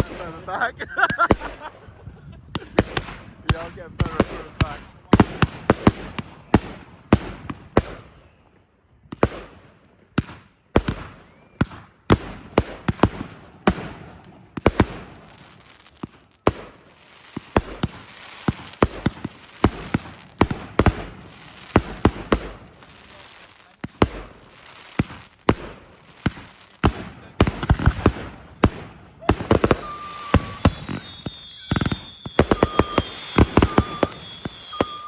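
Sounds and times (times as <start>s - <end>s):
fireworks banging: 0.0s - 8.1s, 10.2s - 35.0s.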